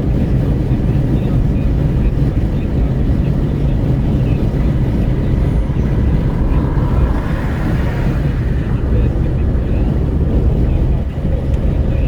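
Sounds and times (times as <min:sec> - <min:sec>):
road and tyre noise: 0:00.0 - 0:12.0
wind rushing at car window: 0:00.0 - 0:12.0.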